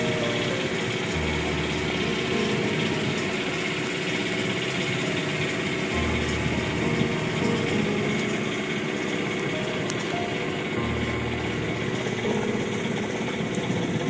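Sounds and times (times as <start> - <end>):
boat engine running steadily: 0.0 - 14.0.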